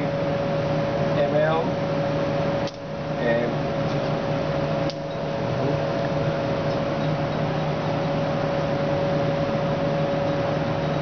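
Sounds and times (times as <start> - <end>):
low machine drone: 0.0 - 11.0
mid-pitched machine whine: 0.0 - 11.0.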